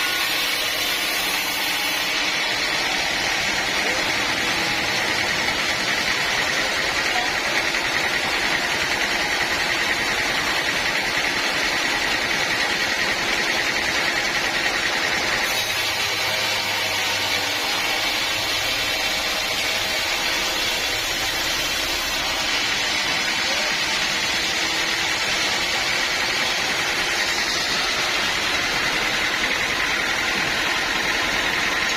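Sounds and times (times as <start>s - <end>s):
sawmill machinery drone: 0.0s - 31.9s.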